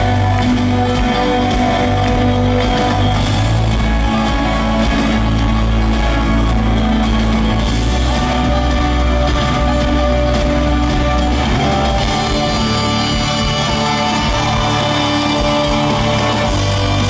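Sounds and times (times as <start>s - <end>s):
folk rock band playing: 0.0s - 17.0s
guitar: 0.0s - 17.0s
loud low bass notes: 0.0s - 17.0s.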